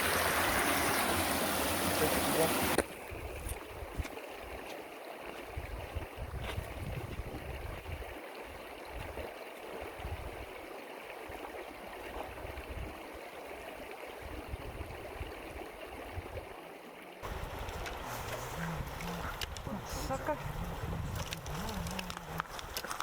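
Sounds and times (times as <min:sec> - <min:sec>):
stream running over rocks: 0:00.0 - 0:23.0.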